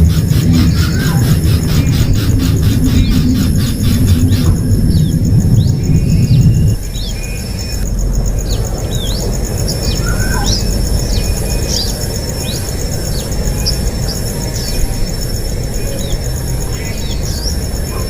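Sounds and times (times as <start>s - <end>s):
constant low rumble: 0.0s - 18.0s
insect trill: 0.0s - 18.0s
small birds chirping: 0.0s - 18.0s.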